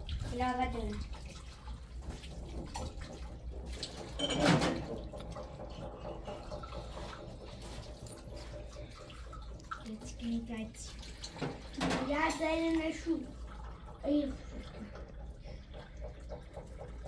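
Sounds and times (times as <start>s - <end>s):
tap water splashing into sink: 0.0s - 17.0s.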